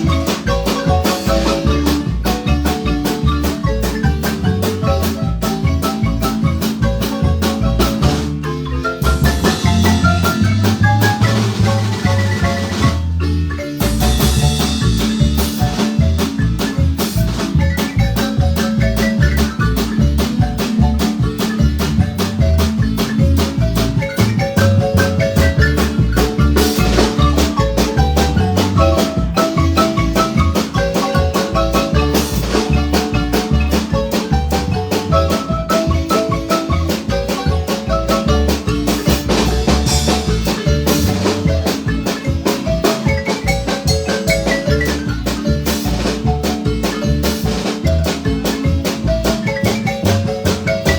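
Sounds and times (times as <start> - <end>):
bass line: 0.0 - 50.9
marimba ensemble playing: 0.0 - 50.9
percussion beat: 0.0 - 50.9.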